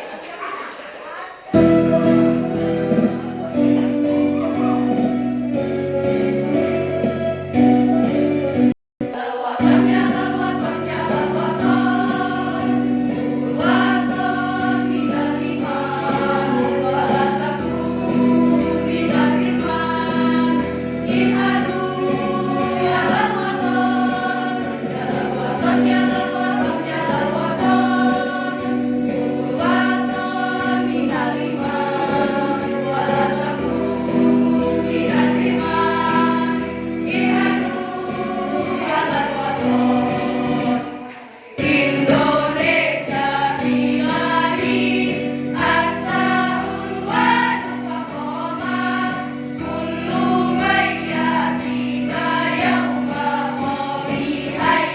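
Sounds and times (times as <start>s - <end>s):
girls choir singing: 0.0s - 5.1s, 9.0s - 54.9s.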